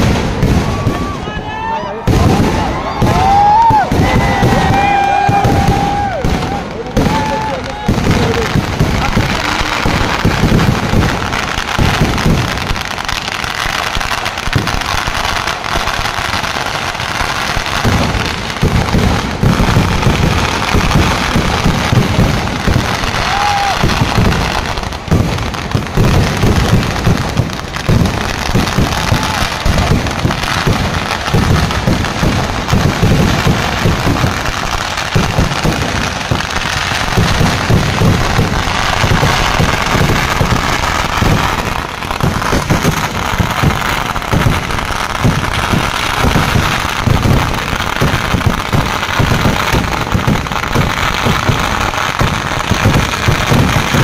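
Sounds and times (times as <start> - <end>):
firecrackers crackling: 0.0 - 54.0
fireworks barrage booming: 0.0 - 54.0.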